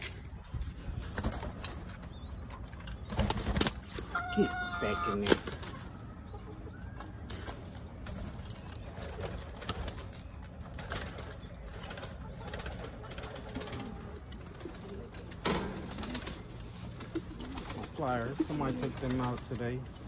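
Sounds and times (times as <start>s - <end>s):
pigeons cooing: 0.1s - 20.0s.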